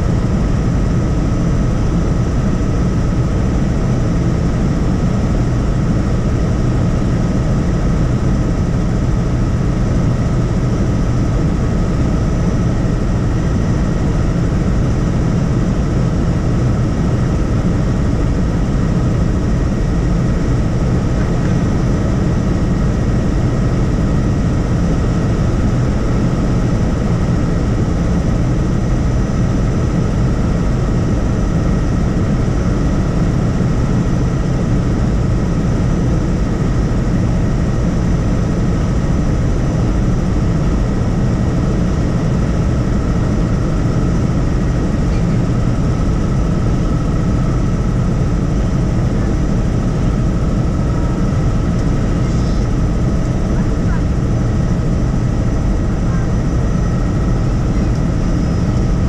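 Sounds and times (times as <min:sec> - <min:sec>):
helicopter rotor and engine rumble: 0:00.0 - 0:59.0.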